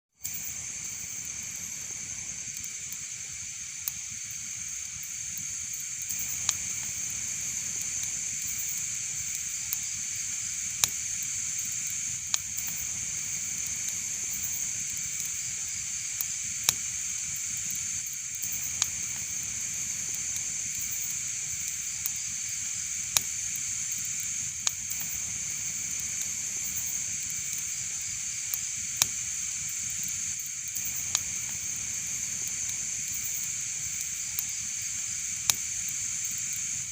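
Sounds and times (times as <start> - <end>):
fire hissing: 0.2 - 36.9
wood fire crackling: 0.2 - 36.9.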